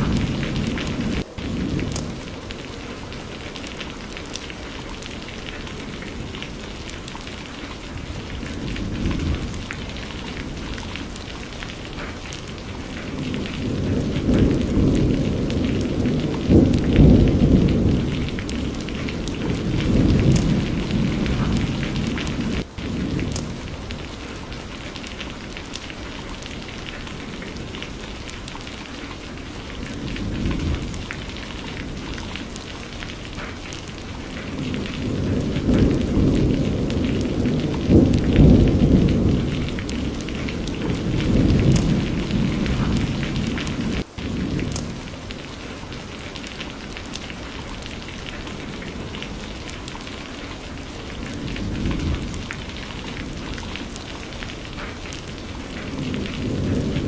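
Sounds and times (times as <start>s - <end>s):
rolling thunder: 0.0s - 46.3s, 46.9s - 57.0s
steady rain: 0.0s - 57.0s.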